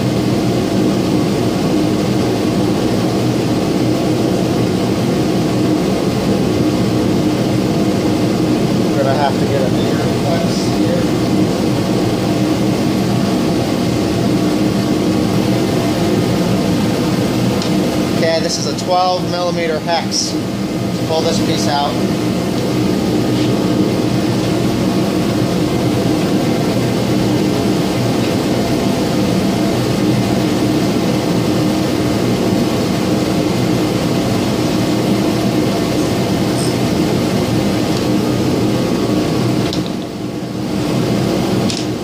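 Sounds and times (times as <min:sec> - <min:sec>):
machine humming loudly: 0:00.0 - 0:42.0.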